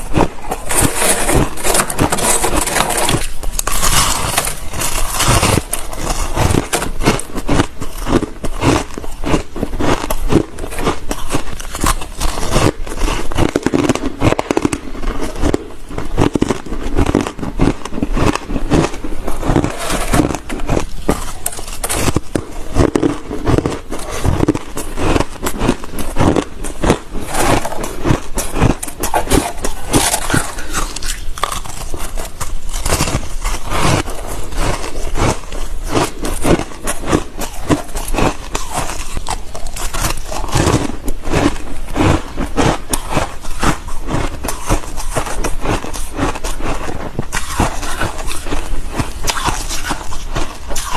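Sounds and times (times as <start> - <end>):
biting and crunching ice: 0.0 - 50.9.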